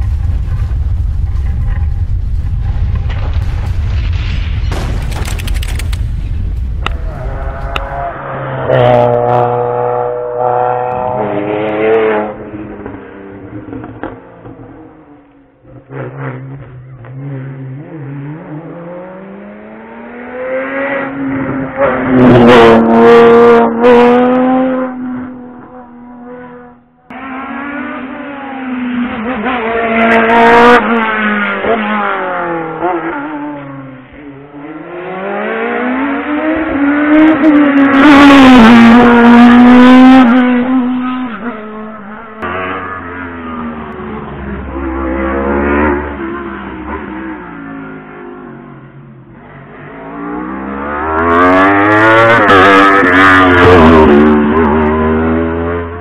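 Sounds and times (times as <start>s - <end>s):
race car engines revving: 6.8s - 56.0s.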